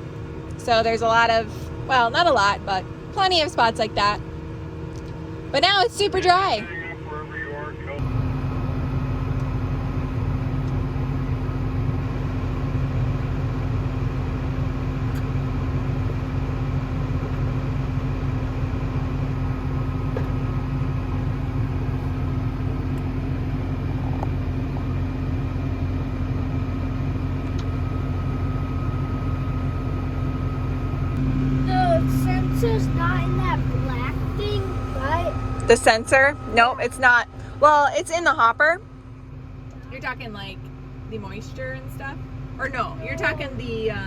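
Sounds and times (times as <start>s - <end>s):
diesel engine droning: 0.0s - 44.0s
thin steady whine: 0.0s - 44.0s.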